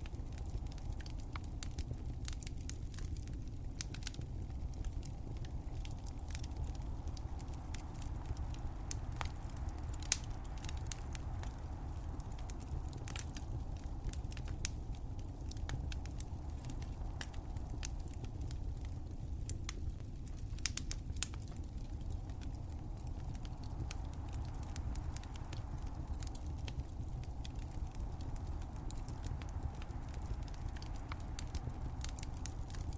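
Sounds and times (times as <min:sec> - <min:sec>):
fire crackling: 0:00.0 - 0:32.9.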